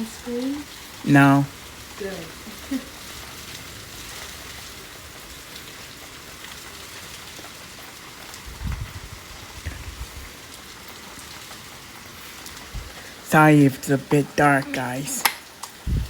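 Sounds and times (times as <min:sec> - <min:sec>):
hailstones ticking: 0:00.0 - 0:16.0
steady rain: 0:00.0 - 0:16.0.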